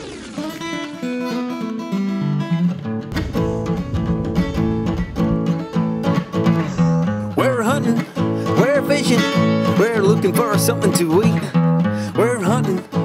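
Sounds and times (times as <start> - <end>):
acoustic guitar strumming: 0.4 - 13.0.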